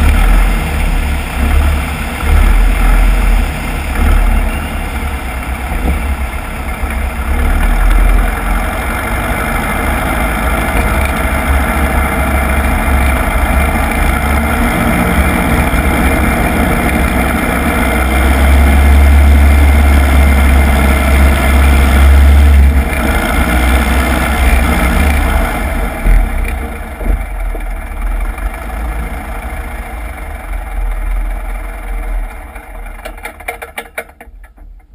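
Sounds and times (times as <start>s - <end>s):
small plane engine and propeller: 0.0s - 34.6s.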